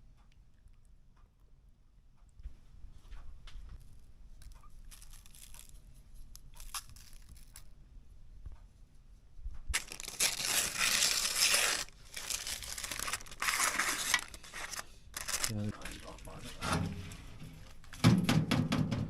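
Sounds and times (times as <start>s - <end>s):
rustling and crinkling: 2.5s - 18.2s.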